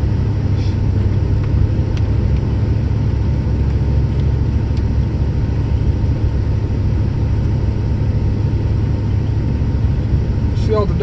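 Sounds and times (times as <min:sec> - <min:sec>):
pickup truck driving on snow: 0:00.0 - 0:11.0.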